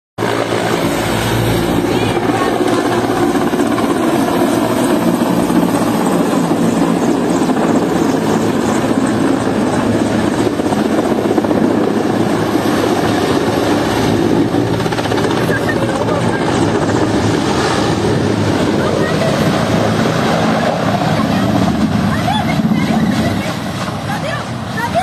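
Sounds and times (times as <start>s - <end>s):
helicopter rotor and engine: 0.2s - 25.0s.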